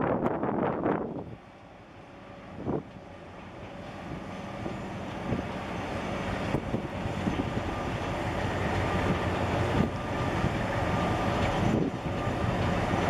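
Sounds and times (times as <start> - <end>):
ship engine rumble: 0.0 - 13.0.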